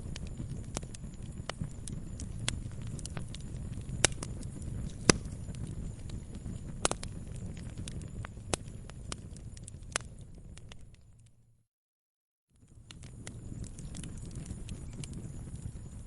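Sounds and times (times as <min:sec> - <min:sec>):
fire popping: 0:00.0 - 0:11.4, 0:12.6 - 0:16.0
wood fire rumbling: 0:00.0 - 0:11.4, 0:12.6 - 0:16.0.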